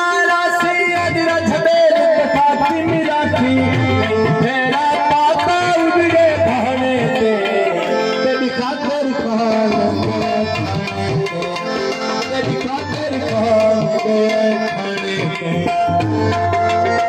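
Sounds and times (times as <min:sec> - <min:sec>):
live music with percussive beat: 0:00.0 - 0:17.0.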